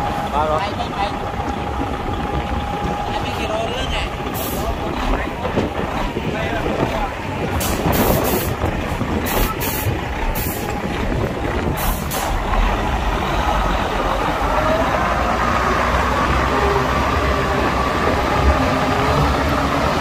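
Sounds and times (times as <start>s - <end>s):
heavy diesel machinery rumbling: 0.0s - 20.0s.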